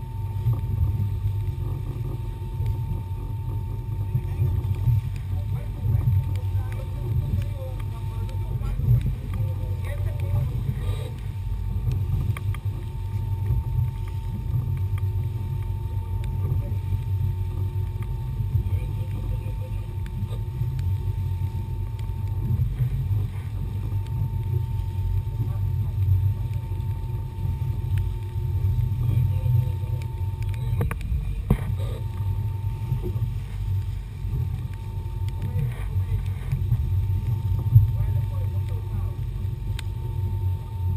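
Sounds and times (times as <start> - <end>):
boat churning through water: 0.0 - 40.9
outboard motors droning: 0.0 - 40.9.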